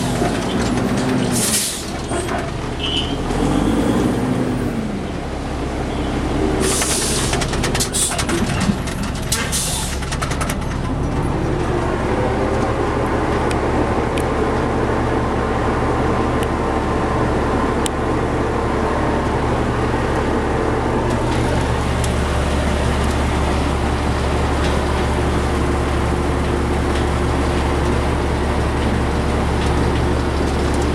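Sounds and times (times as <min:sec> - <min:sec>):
heavy engine droning: 0:00.0 - 0:30.9.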